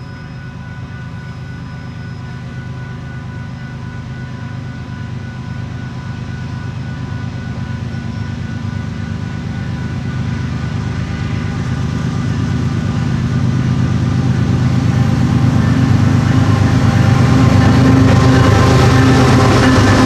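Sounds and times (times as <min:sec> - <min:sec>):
train locomotive engine rumble: 0:00.0 - 0:20.0.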